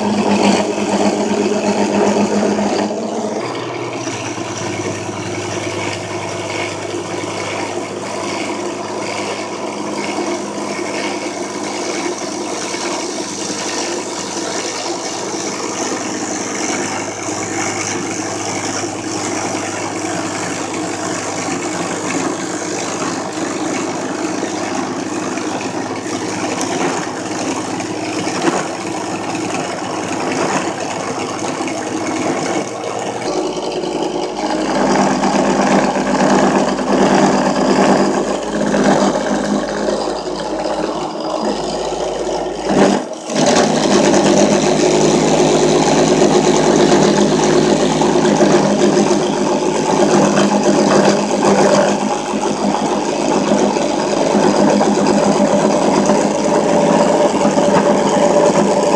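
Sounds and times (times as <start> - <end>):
drill press milling plastic: 0.0 - 58.9.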